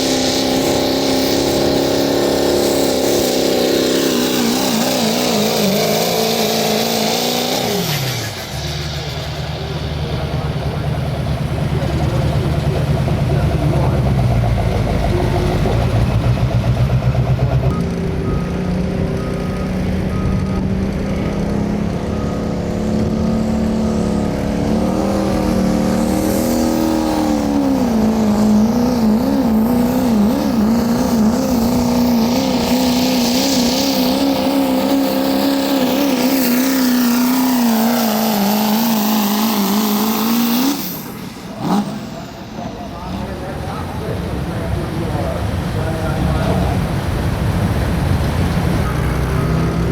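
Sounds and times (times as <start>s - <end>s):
truck engine at full throttle: 0.0s - 49.9s.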